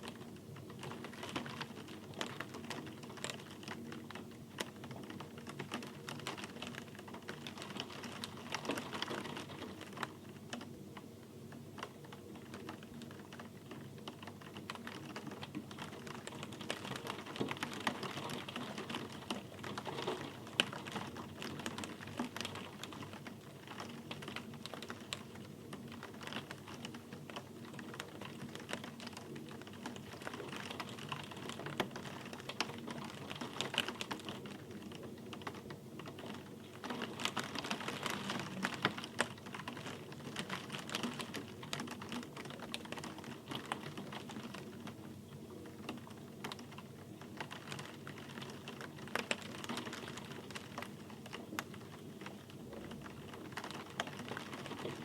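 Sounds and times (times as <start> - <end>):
raindrops ticking on hard surface: 0.0 - 55.0
soft rain hiss: 0.0 - 55.0.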